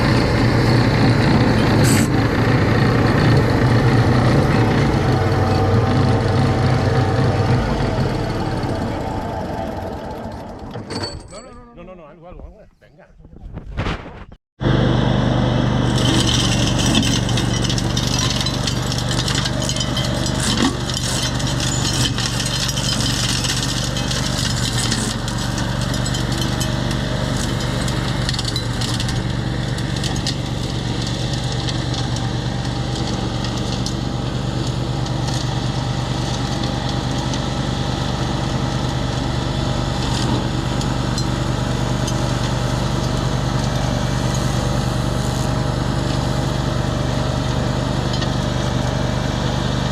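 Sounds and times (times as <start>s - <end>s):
tractor engine under load: 0.0s - 11.6s, 14.6s - 49.9s.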